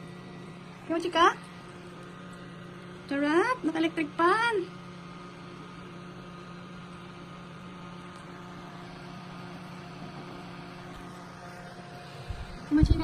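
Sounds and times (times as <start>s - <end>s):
electric desk fans whirring: 0.0s - 13.0s.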